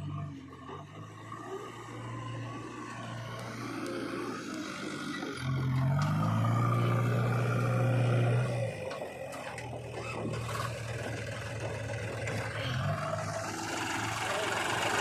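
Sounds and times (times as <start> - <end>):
diesel engine of heavy machinery: 0.0 - 15.0.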